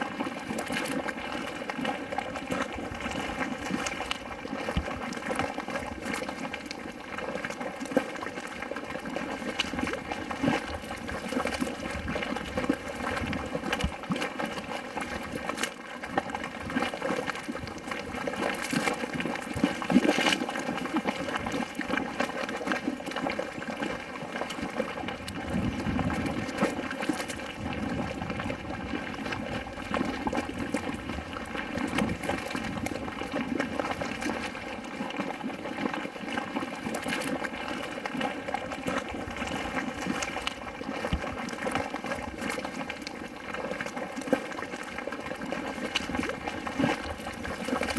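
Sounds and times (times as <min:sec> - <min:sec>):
mud bubbling and popping: 0:00.0 - 0:47.9.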